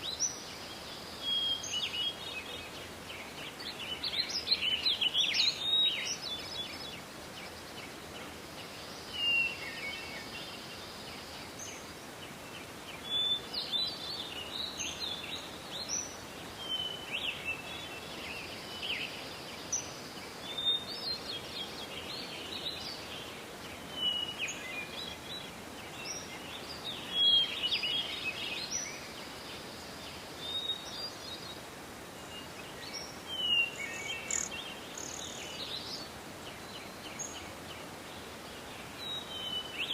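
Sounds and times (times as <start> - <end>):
forest background hiss: 0.0 - 39.9
small songbirds chirping: 0.0 - 39.9.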